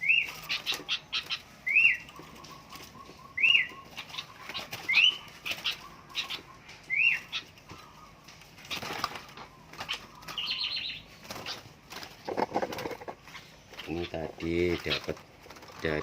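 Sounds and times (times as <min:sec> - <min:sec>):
wing fluttering: 0:00.0 - 0:06.5, 0:07.2 - 0:16.0
bird calling rising and falling: 0:00.0 - 0:15.1
harsh bird chattering: 0:00.0 - 0:16.0.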